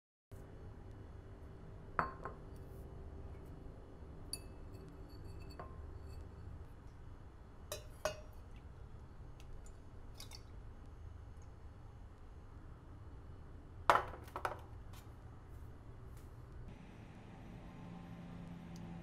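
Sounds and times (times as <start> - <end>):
low steady hum: 0.4 - 19.0.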